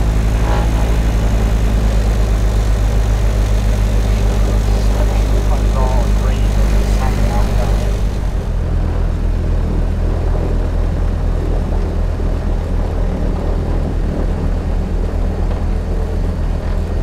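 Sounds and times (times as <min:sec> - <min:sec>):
twin propeller engines droning: 0:00.0 - 0:17.0.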